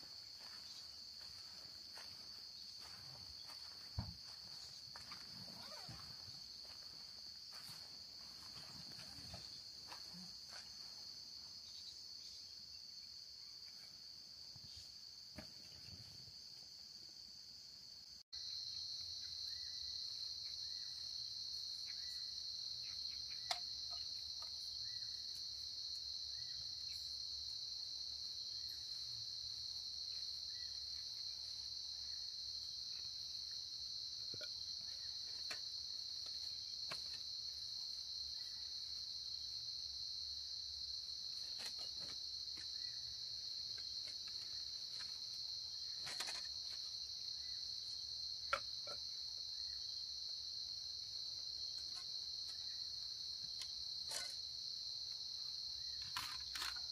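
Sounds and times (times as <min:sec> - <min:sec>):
crickets chirring: 0:00.0 - 0:56.9.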